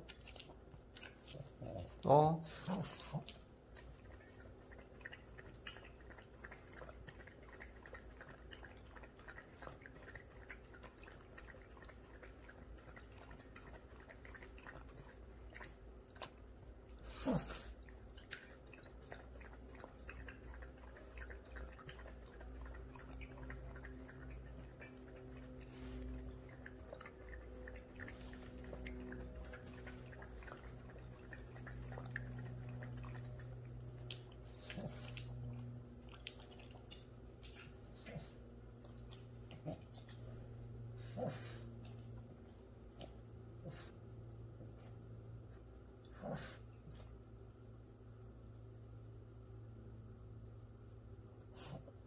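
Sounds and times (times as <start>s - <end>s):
fountain pump hum and trickle: 0.0s - 46.5s
puppy lapping water: 0.0s - 48.4s.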